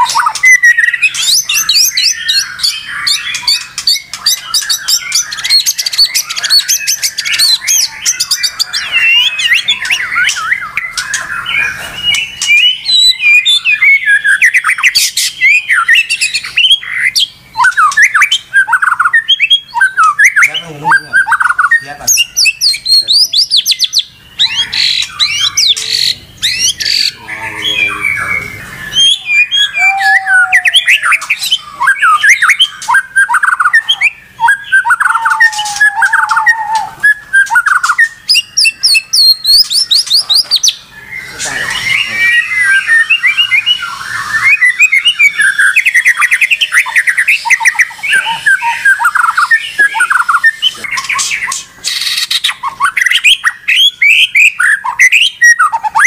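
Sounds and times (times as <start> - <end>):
bird singing whistled notes: 0.0 - 56.0.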